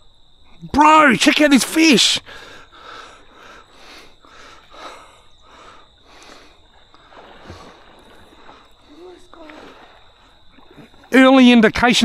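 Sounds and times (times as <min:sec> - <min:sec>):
faint high insect drone: 0:00.0 - 0:12.0
water splashing and sloshing: 0:00.8 - 0:12.0.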